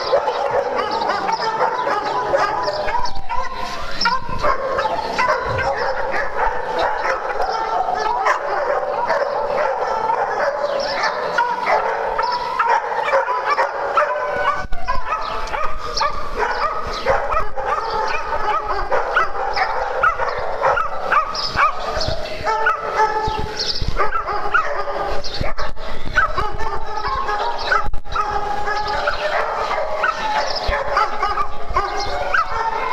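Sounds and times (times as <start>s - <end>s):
small dogs barking and yipping: 0.0s - 32.9s.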